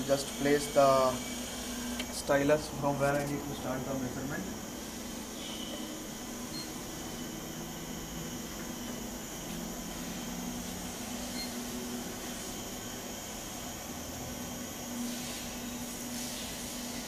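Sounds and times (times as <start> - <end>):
machine drive electric hum: 0.0 - 17.0.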